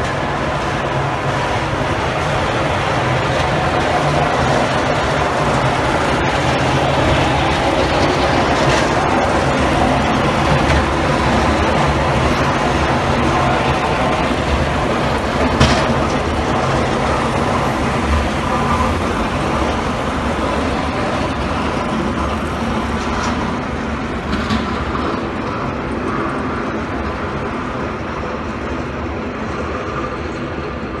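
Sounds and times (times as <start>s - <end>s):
truck engines rumbling: 0.0s - 27.2s.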